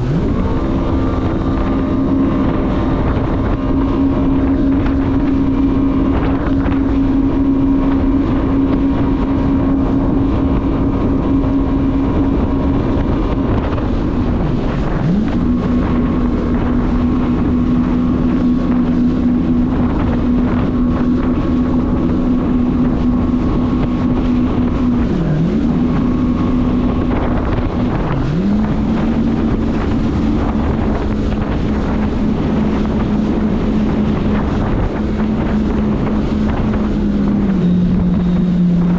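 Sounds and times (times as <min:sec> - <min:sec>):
jet ski engine running: 0:00.0 - 0:38.9
rushing water: 0:00.0 - 0:38.9
wind buffeting microphone: 0:00.0 - 0:38.9.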